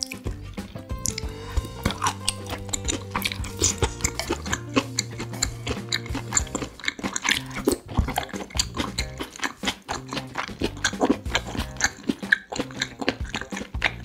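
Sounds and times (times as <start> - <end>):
background music with low notes: 0.0 - 14.0
chewing and wet mouth sounds: 0.0 - 14.0.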